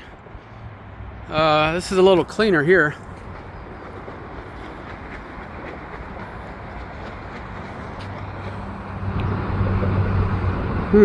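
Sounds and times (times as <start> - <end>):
freeway traffic roar: 0.0 - 11.0.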